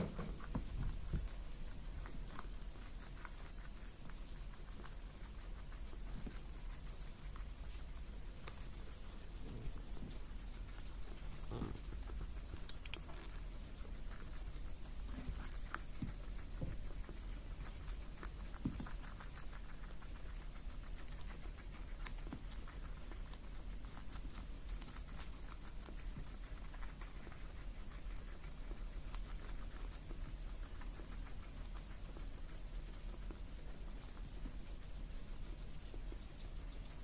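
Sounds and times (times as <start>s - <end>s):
faint low hum: 0.0s - 37.0s
guinea pigs chewing: 0.0s - 37.0s.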